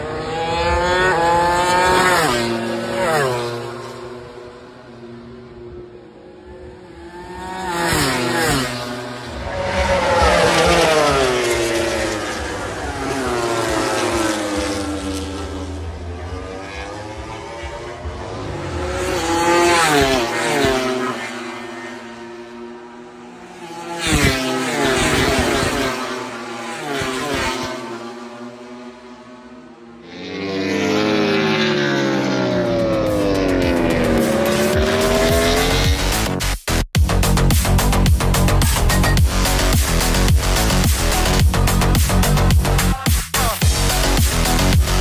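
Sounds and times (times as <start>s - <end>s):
racing motorcycle engines revving: 0.0s - 45.0s.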